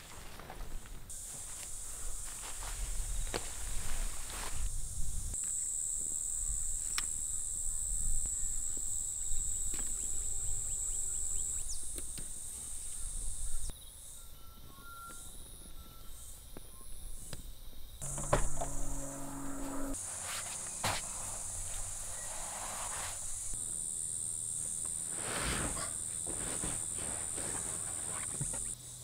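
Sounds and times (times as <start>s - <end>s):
insects chirring: 1.1s - 29.0s.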